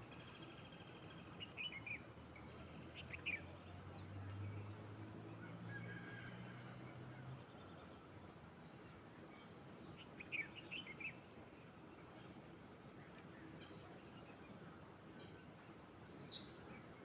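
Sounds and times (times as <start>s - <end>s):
faint outdoor hiss: 0.0s - 5.8s, 7.0s - 17.0s.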